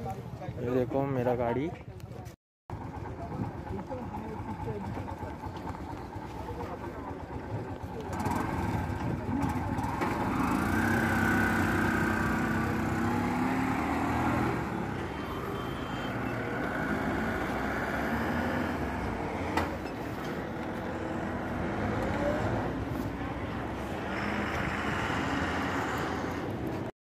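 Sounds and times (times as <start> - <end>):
rickshaw engine pulling away: 2.7 - 26.9.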